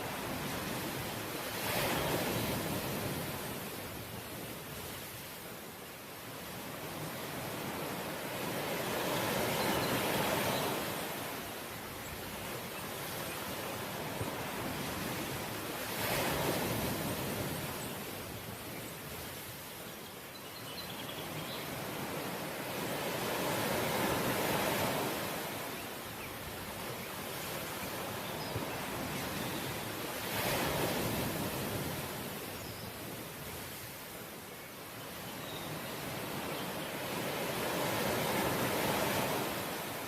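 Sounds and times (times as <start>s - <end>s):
ocean waves breaking on shore: 0.0s - 40.0s.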